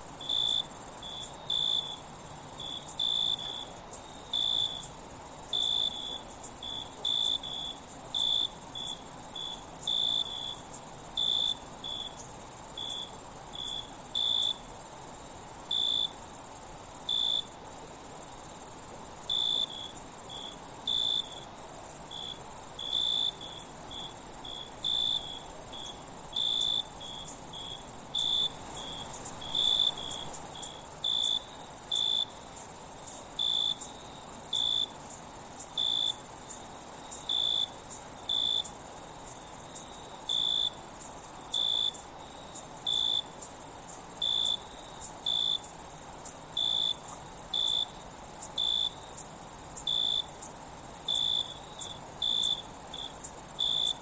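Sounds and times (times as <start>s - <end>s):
insect high-pitched trill: 0.1s - 54.0s.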